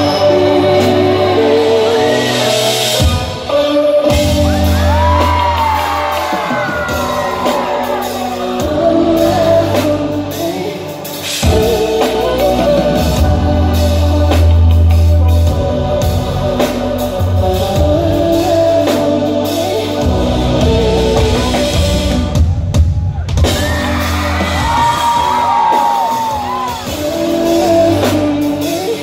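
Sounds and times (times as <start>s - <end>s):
person singing: 0.0s - 22.6s, 23.4s - 29.0s
live r and b band music: 0.0s - 29.0s
heavy bass and drums: 2.8s - 29.0s.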